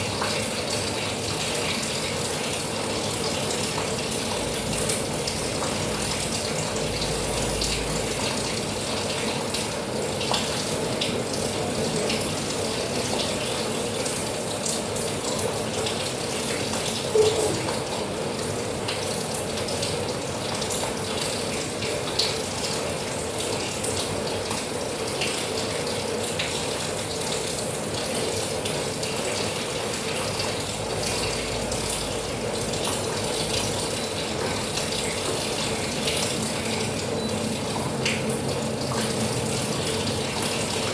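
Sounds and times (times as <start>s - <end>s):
rain drops on hard surface: 0.0s - 40.9s.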